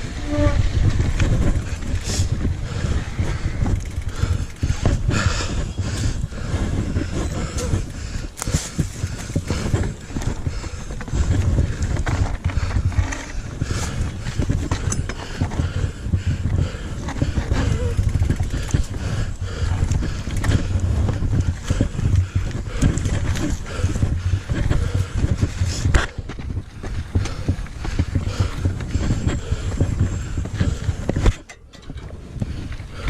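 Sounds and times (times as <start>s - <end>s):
bike clicks and rattles: 0.0s - 33.0s
tyres rumbling on dirt: 0.0s - 33.0s
wind buffeting microphone: 0.0s - 33.0s.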